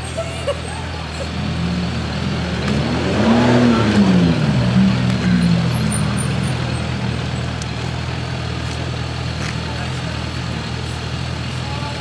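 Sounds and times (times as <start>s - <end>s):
motorcycle engine revving: 1.3s - 12.0s.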